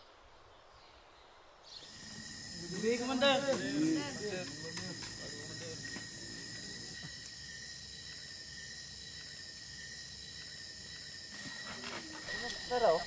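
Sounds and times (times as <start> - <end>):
crickets chirping: 1.1 - 13.0.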